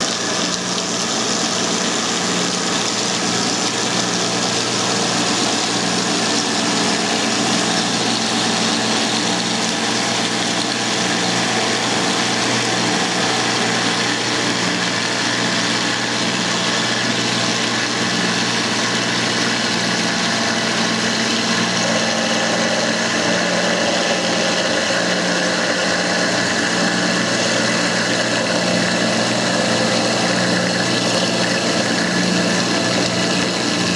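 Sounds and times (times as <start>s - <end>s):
engine running steadily: 0.0s - 33.9s.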